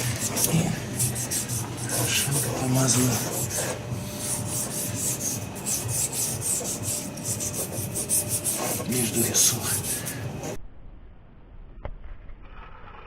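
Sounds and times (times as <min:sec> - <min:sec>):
brush scrubbing metal springs: 0:00.0 - 0:10.6.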